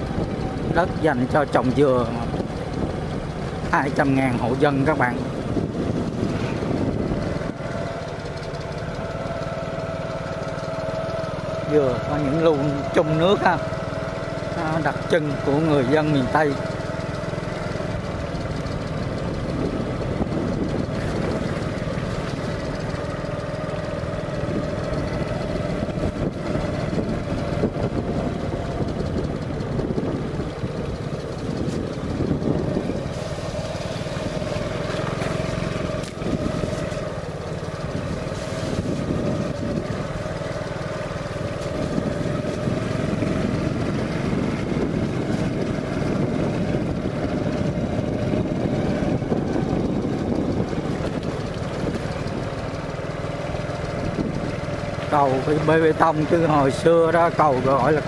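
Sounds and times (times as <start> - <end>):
motorbike engine rumble: 0.0 - 58.0.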